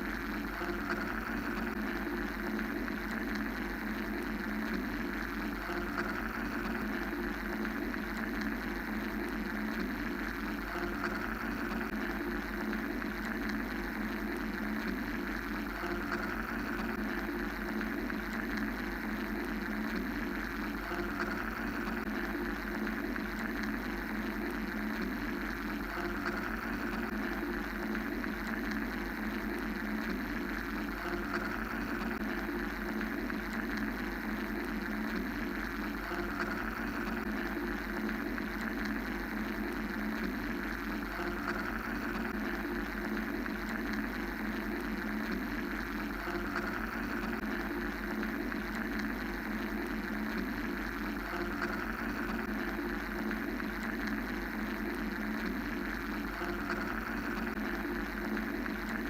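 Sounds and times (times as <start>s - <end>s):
mechanical white noise hum: 0.0s - 59.0s.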